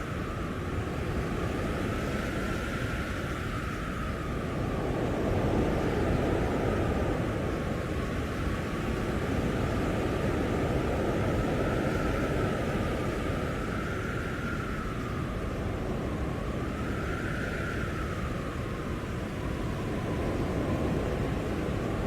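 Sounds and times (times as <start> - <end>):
blizzard wind rushing: 0.0 - 22.0.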